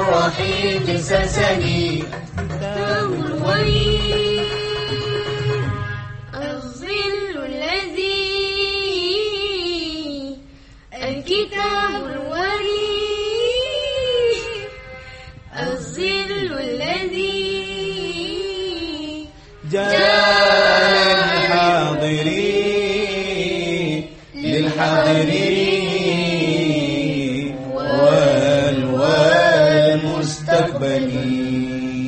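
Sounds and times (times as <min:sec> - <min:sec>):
girls singing verse: 0:00.0 - 0:05.6, 0:06.4 - 0:14.6, 0:15.5 - 0:32.0.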